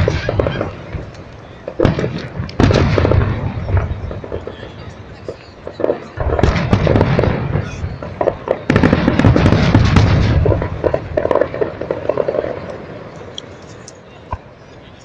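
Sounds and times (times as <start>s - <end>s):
fireworks booming: 0.0s - 14.6s
fireworks crackling: 0.0s - 15.0s.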